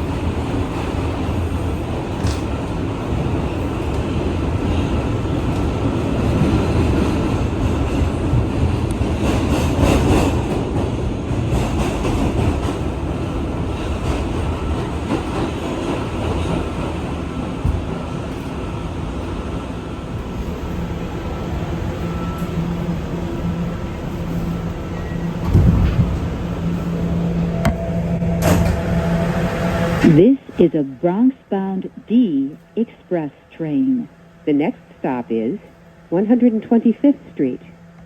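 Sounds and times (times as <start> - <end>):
train wheels rumbling on rail: 0.0 - 30.6.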